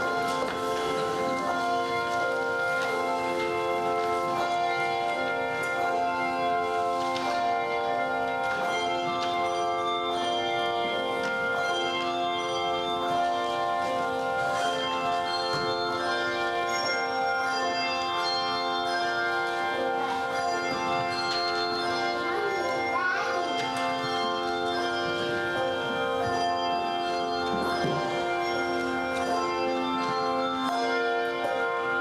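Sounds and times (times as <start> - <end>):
church music held chords: 0.0 - 32.0.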